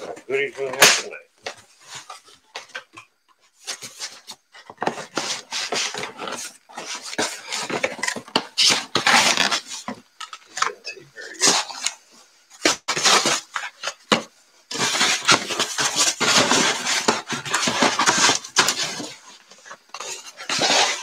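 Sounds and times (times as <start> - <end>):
cardboard boxes scraping and rattling: 0.0 - 21.0.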